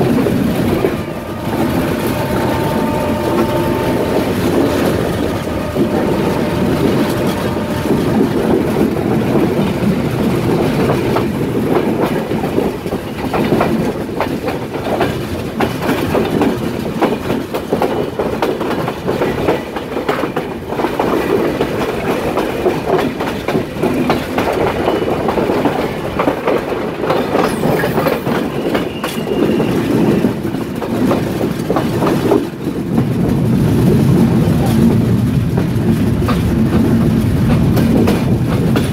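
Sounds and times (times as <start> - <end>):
train wheels clattering: 0.0 - 38.9.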